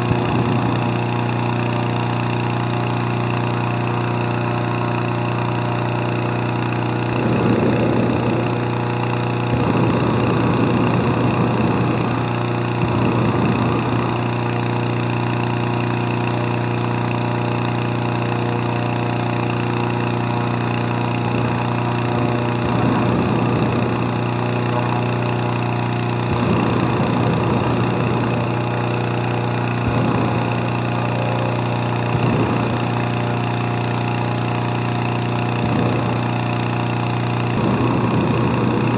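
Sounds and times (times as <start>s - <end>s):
propane burner blasts: 0.0s - 38.9s
small petrol engine fan running: 0.0s - 38.9s.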